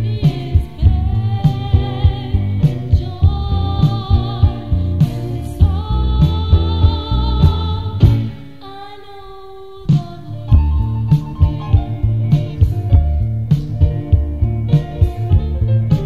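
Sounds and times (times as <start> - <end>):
blues song with singing: 0.0 - 16.0.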